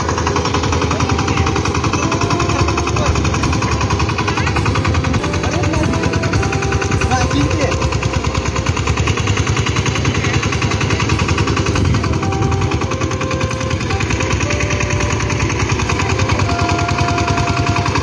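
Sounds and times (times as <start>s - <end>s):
diesel engine chugging: 0.0s - 18.0s.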